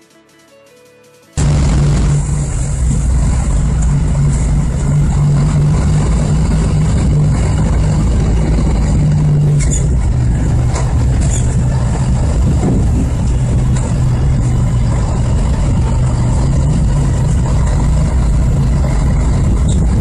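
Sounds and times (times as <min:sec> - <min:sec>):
vehicle engine droning: 0:01.4 - 0:20.0.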